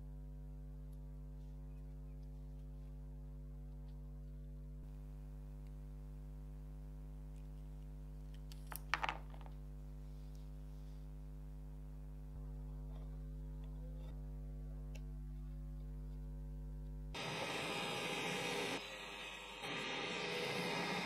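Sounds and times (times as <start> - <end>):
steady low hum: 0.0 - 8.6, 9.5 - 21.0.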